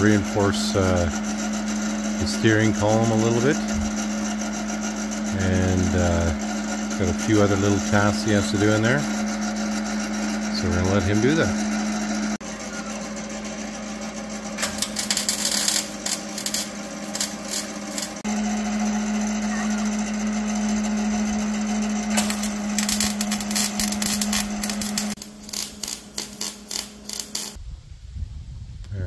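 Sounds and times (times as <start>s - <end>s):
steady electrical hum: 0.0s - 18.3s, 20.8s - 28.1s
welder crackling: 0.0s - 27.6s.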